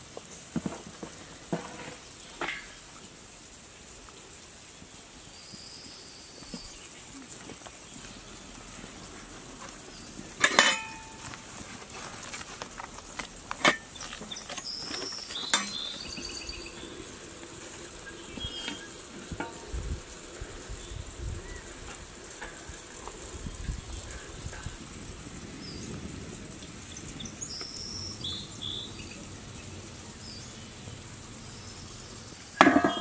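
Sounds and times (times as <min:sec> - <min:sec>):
steady sizzling hiss: 0:00.0 - 0:33.0.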